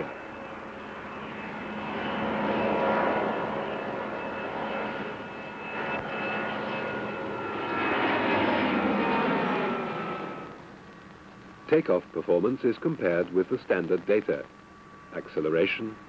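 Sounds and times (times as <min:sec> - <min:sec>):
jet engine roar with whine: 0:00.0 - 0:16.0.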